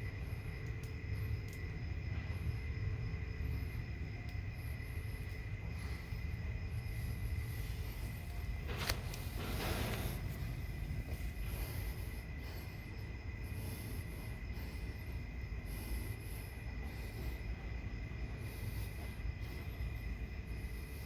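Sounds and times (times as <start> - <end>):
low background rumble: 0.0 - 21.0
night insects chirring: 0.0 - 21.0.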